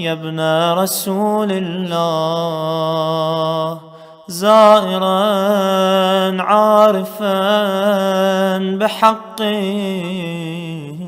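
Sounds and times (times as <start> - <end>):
person chanting melodic recitation: 0.0 - 11.0.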